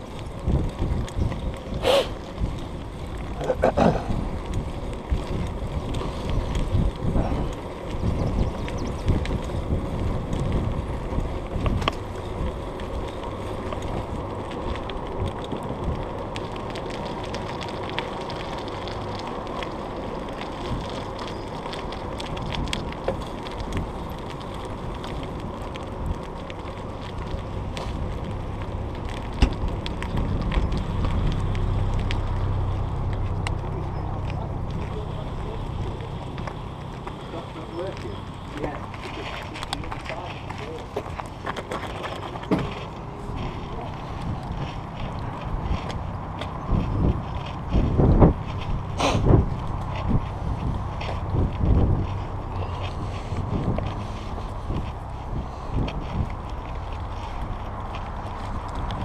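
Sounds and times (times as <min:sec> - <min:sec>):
bicycle tyre rumble: 0:00.0 - 0:59.0
wind noise: 0:00.0 - 0:59.0.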